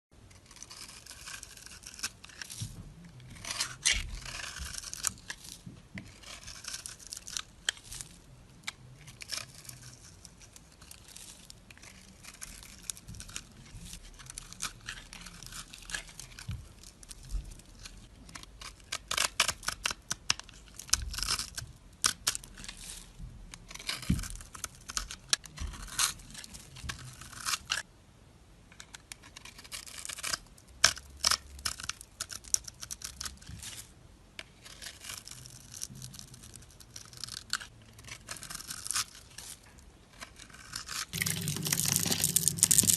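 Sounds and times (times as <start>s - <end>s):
knife scraping soap: 0.3s - 27.8s, 28.7s - 33.5s, 34.4s - 42.9s.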